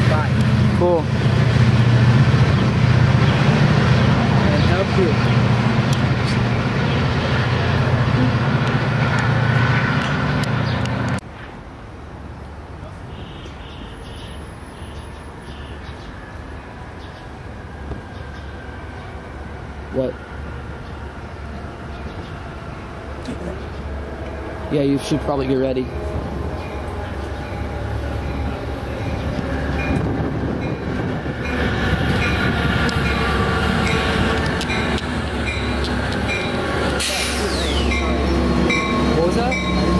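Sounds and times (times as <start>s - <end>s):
train rumbling past: 0.0s - 11.9s, 14.0s - 39.9s.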